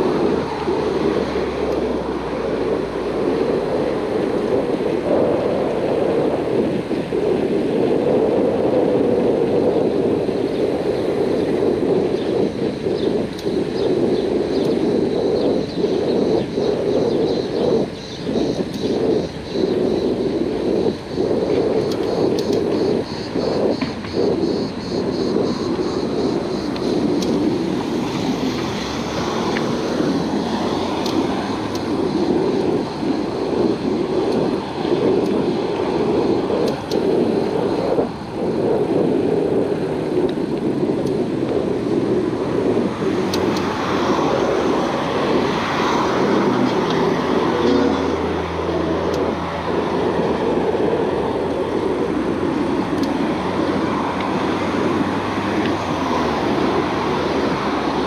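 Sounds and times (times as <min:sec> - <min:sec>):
bicycle tyres rolling: 0:00.0 - 0:58.0
road traffic passing: 0:00.0 - 0:58.0
vehicle engine hum: 0:00.0 - 0:58.0
wind on microphone: 0:00.0 - 0:58.0.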